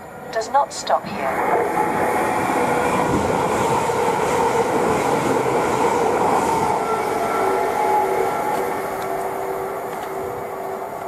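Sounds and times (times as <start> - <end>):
train wheels rumbling: 0.0 - 11.0
electric train motor whine: 1.3 - 11.0.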